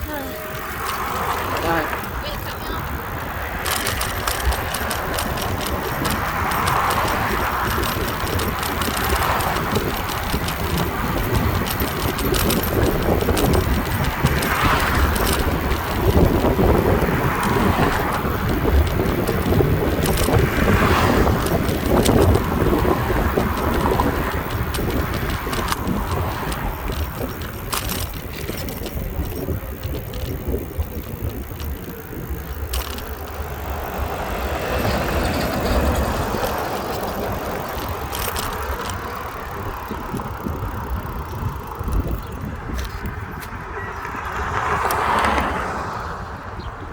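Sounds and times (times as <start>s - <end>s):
clicks and rattles: 0.0s - 45.6s
bicycle riding rumble: 0.0s - 46.9s
wind buffeting microphone: 0.0s - 46.9s.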